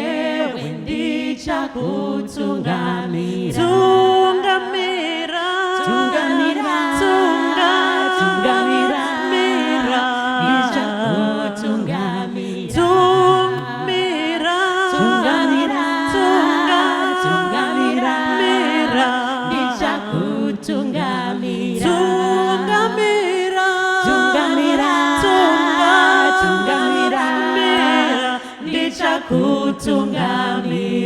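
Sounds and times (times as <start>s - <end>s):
women singing in harmony: 0.0s - 31.0s.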